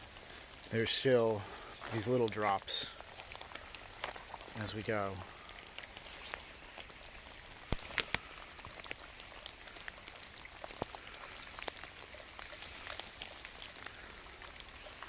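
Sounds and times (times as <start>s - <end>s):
light rain patter: 0.0s - 15.0s.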